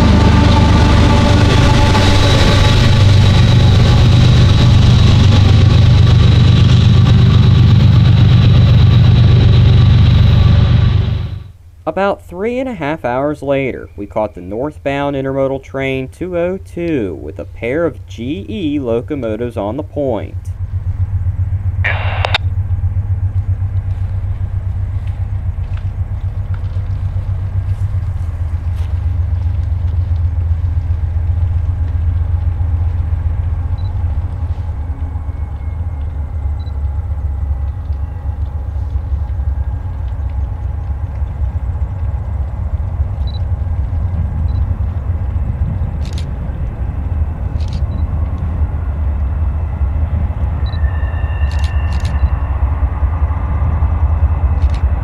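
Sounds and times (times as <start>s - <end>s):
diesel locomotives rumbling: 0.0s - 55.0s.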